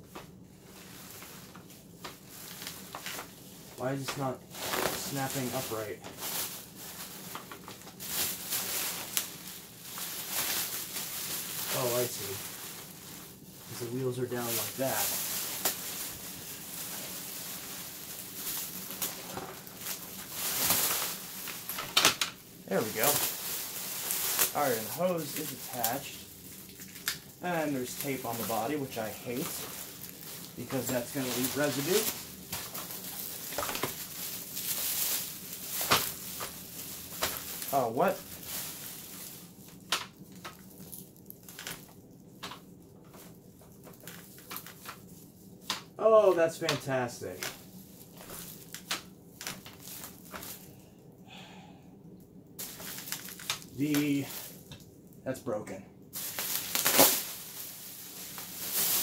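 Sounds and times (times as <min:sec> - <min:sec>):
plastic rustling: 0:00.0 - 0:50.9, 0:52.6 - 0:55.2, 0:56.1 - 0:59.0.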